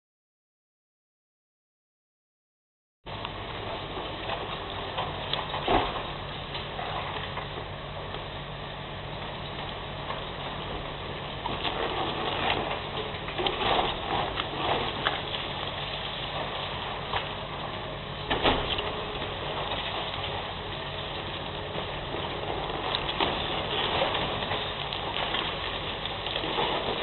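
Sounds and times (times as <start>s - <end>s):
excavator diesel engine running: 3.1s - 27.0s
debris cracking and crunching: 3.2s - 27.0s.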